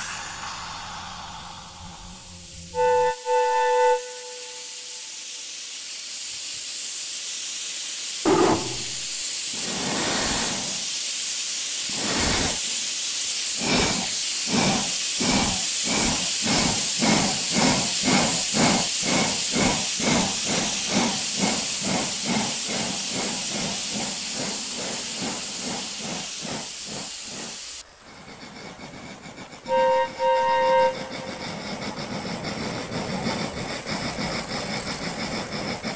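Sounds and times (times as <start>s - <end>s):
steam hissing: 0.0s - 35.9s.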